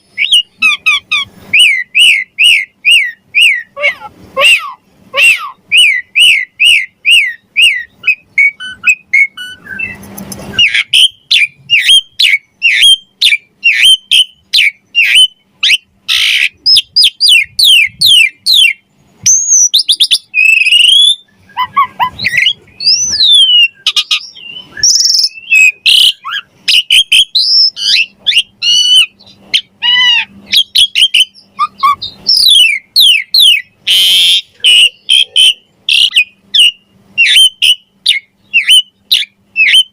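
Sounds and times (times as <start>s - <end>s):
starling singing whistled notes: 0.0s - 39.9s.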